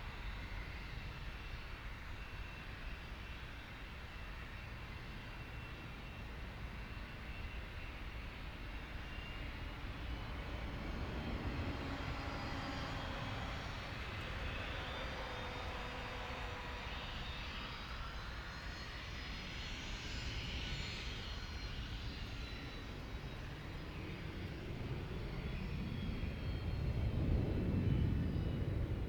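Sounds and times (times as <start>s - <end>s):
jet engine rumble: 0.0s - 29.0s
jet engine whine: 0.0s - 29.0s.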